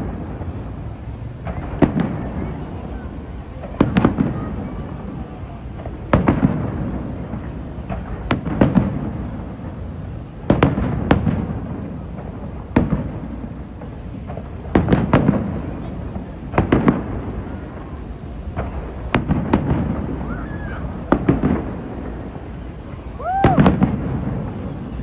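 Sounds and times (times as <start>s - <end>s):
fireworks booming with echo: 0.0s - 25.0s.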